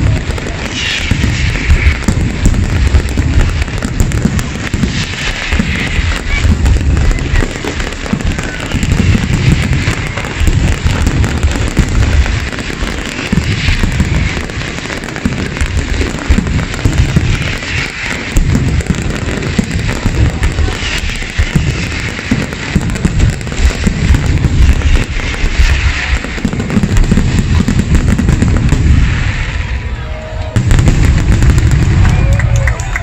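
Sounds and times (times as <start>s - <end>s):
firework shells booming: 0.0s - 33.0s
fireworks crackling: 0.0s - 33.0s.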